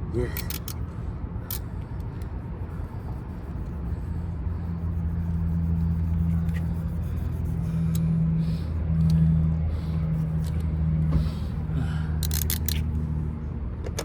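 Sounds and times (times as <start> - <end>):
low rumble: 0.0 - 13.8.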